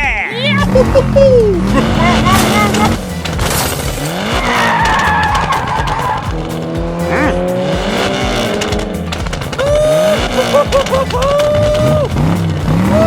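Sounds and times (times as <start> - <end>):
background music with steady beat: 0.0 - 13.0
engine-like pitch glides: 0.4 - 13.0.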